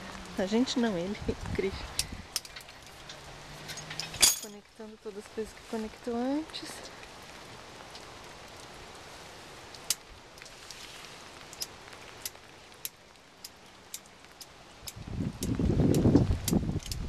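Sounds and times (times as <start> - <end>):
light rain hiss: 0.0 - 17.0
raindrop ticks: 0.0 - 17.0.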